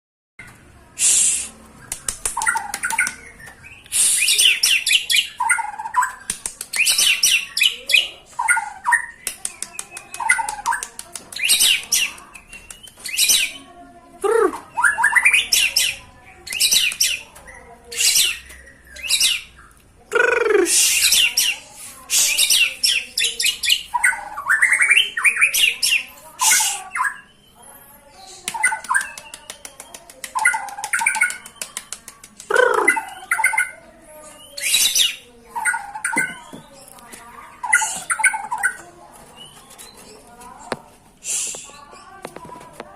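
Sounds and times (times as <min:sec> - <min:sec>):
songbird singing: 0:01.8 - 0:42.6.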